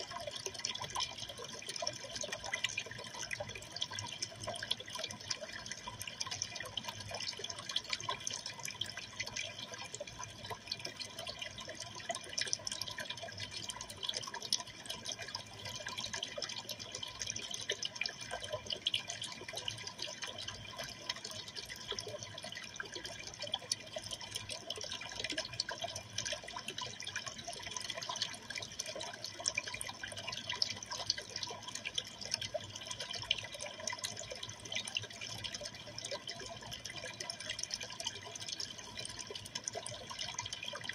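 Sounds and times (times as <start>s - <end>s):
aquarium water trickling: 0.0s - 40.9s.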